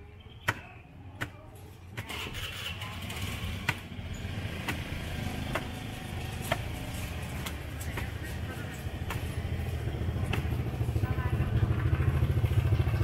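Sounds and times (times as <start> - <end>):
street noise rumble: 0.0 - 13.0.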